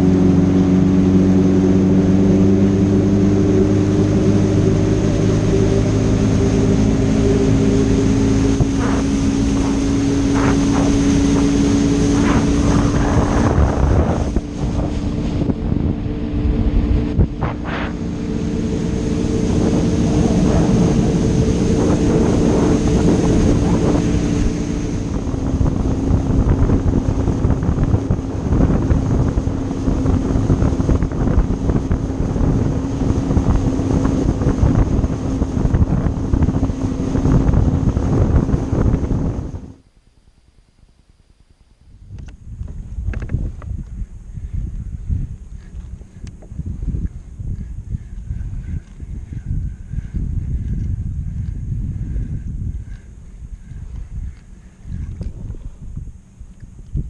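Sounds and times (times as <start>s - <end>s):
wind noise on microphone: 0.0s - 39.9s, 41.8s - 57.0s
engine running steadily: 0.0s - 40.0s, 42.1s - 57.0s.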